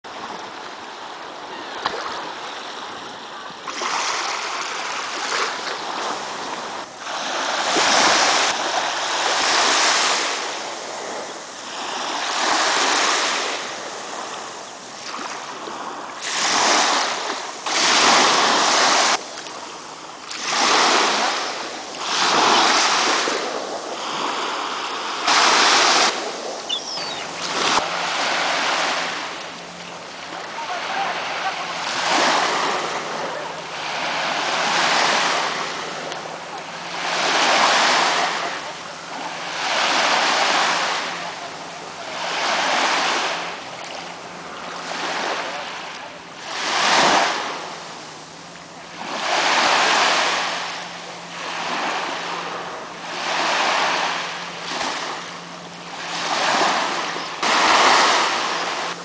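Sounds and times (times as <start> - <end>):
small waves breaking: 0.1 - 59.0.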